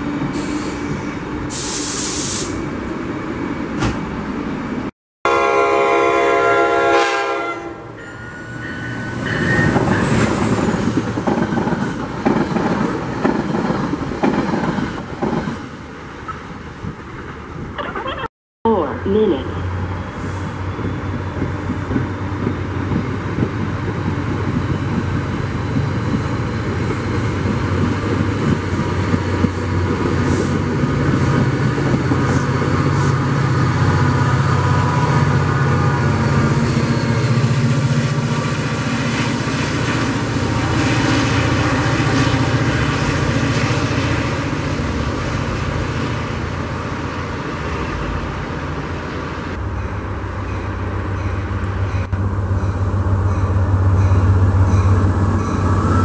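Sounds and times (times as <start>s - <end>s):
train passing on rails: 0.0s - 17.8s, 18.8s - 56.0s.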